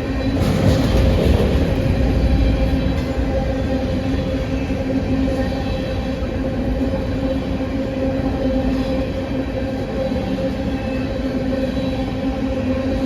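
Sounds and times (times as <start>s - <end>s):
low train rumble: 0.0s - 13.0s
train engine drone: 0.0s - 13.0s.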